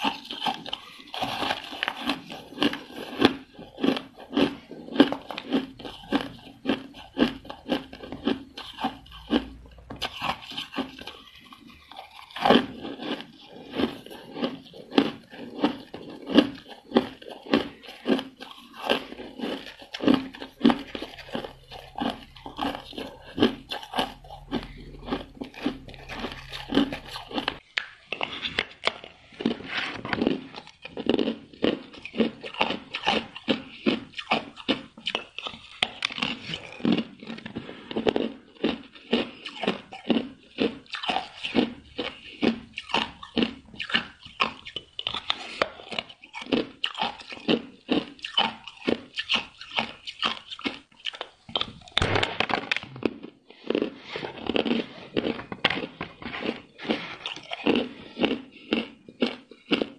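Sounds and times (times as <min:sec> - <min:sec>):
chewing ice crunches: 0:00.0 - 0:59.9.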